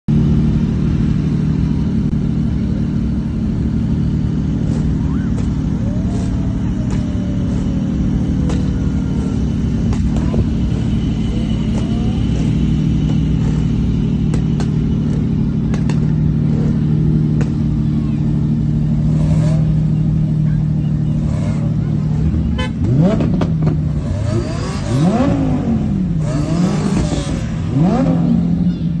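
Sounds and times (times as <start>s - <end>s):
sports car engines rumbling: 0.1s - 29.0s.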